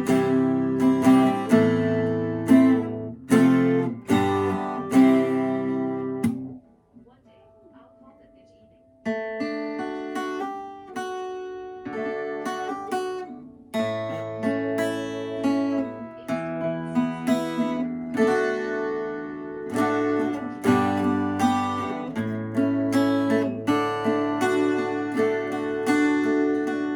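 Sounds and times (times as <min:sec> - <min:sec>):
acoustic guitar playing: 0:00.0 - 0:26.9.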